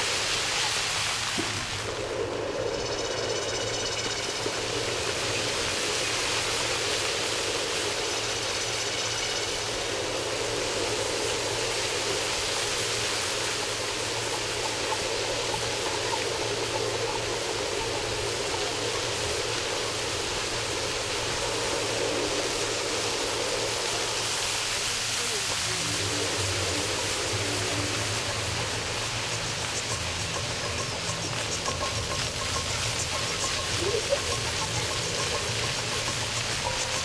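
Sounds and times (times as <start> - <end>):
fountain jets splashing: 0.0 - 37.0.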